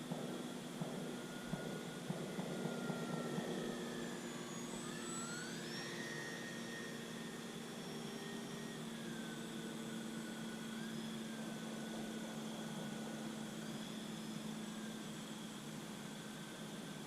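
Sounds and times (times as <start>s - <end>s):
model plane motor whining: 1.1s - 17.0s.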